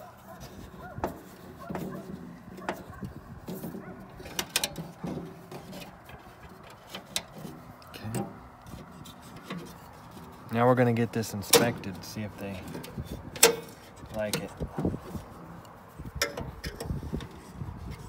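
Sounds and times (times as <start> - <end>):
screwdriver clicking and scraping: 0.3 - 10.5, 12.6 - 18.0.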